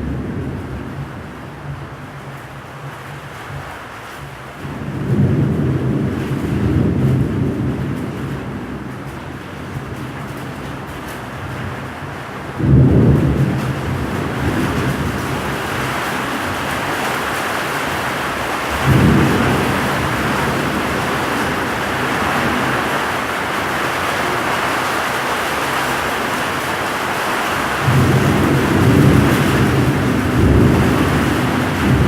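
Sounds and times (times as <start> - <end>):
thunder rumbles: 0.0 - 2.2, 4.6 - 32.0
heavy rain: 0.0 - 32.0.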